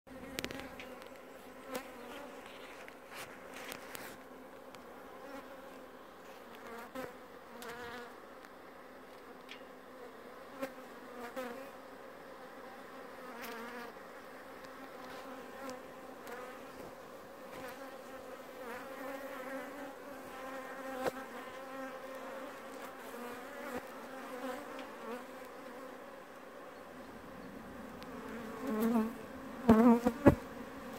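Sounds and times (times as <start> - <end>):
bees buzzing: 0.1 - 8.2, 9.8 - 30.9.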